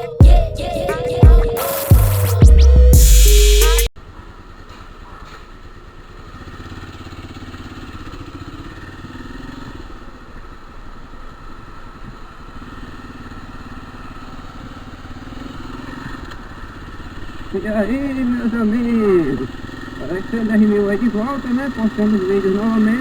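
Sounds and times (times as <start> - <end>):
motorcycle engine running: 0.2 - 23.0.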